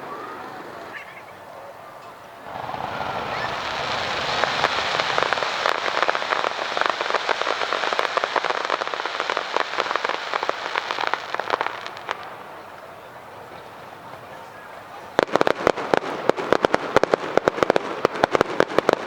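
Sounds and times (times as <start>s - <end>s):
crackling fireworks pops: 2.4s - 19.0s.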